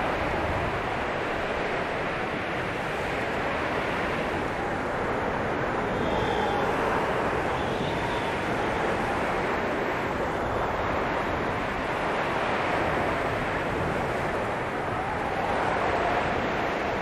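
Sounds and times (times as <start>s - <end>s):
blizzard wind rushing: 0.0s - 17.0s
faint whistling howl of wind: 0.0s - 17.0s.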